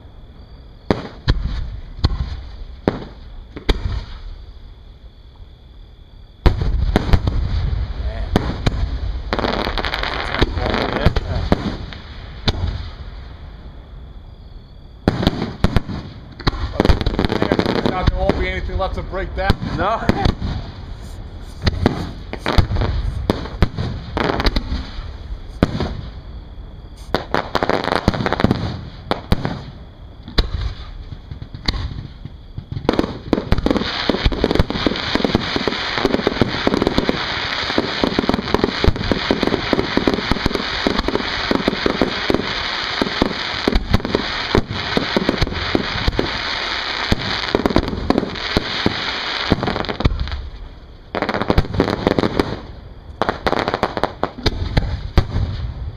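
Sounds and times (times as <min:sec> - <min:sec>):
fireworks bursting: 0:00.8 - 0:04.5, 0:06.4 - 0:13.9, 0:14.8 - 0:55.9.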